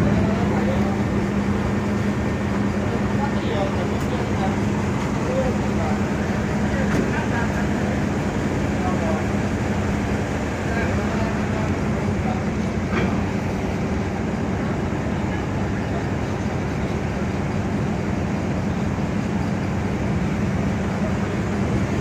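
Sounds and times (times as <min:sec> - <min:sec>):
ship engine droning: 0:00.0 - 0:22.0.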